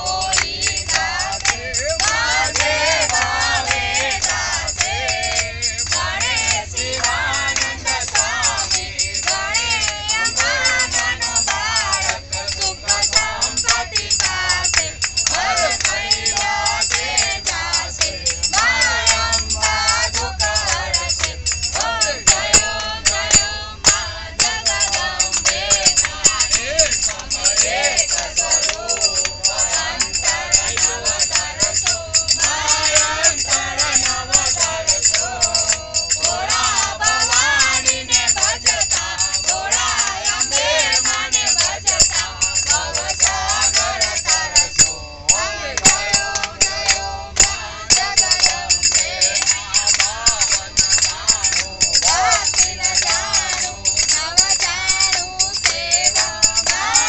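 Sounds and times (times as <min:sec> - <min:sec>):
group singing devotional song: 0:00.0 - 0:57.0
rhythmic hand clapping: 0:00.0 - 0:57.0.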